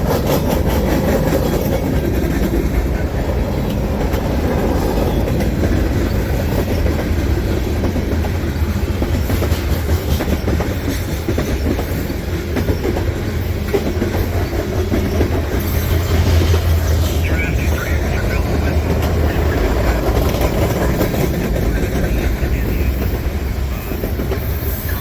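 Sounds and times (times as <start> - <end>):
freight train rumbling past: 0.0 - 25.0
wheels clacking over rail joints: 0.0 - 25.0.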